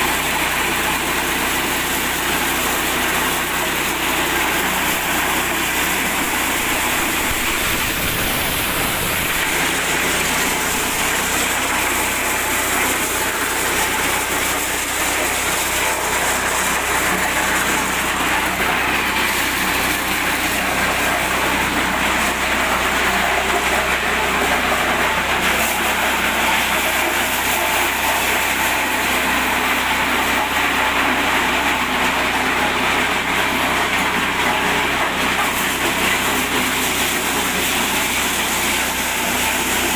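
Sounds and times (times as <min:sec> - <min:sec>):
corn sheller engine running: 0:00.0 - 0:39.9.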